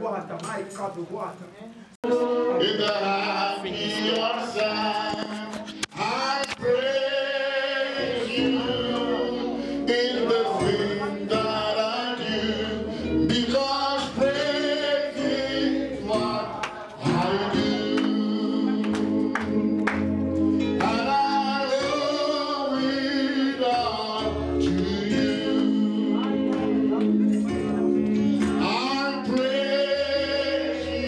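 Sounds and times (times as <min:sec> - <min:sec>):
congregation singing: 0:02.0 - 0:31.0.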